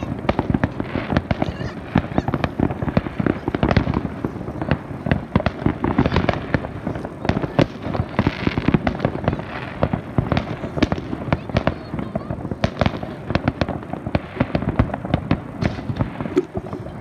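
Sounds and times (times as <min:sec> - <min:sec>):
firework hiss: 0:00.0 - 0:17.0
fireworks bangs and pops: 0:00.0 - 0:17.0.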